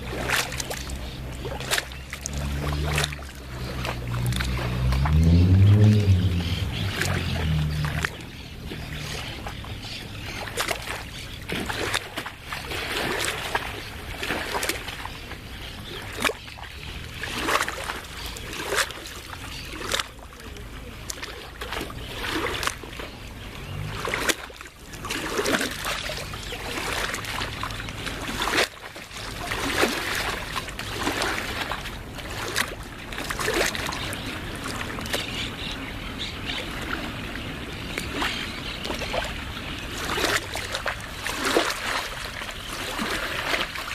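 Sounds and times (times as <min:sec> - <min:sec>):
small waves lapping and splashing: 0:00.0 - 0:43.9
wash of water: 0:00.0 - 0:43.9.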